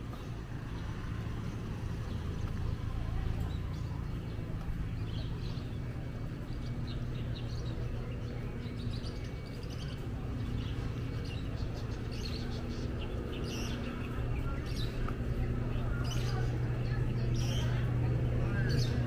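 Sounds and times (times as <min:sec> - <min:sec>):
low street hum: 0:00.0 - 0:19.0
small birds chirping: 0:00.0 - 0:19.0.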